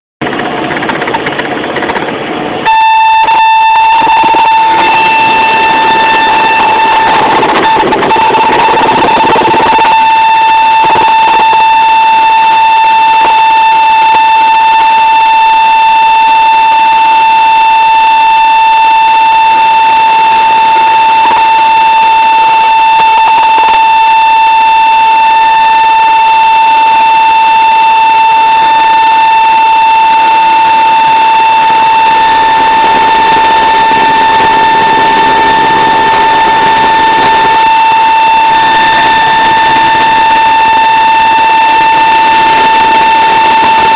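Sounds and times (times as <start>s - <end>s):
cockpit noise: 0.2s - 43.9s
stall warning horn tone: 2.6s - 43.9s.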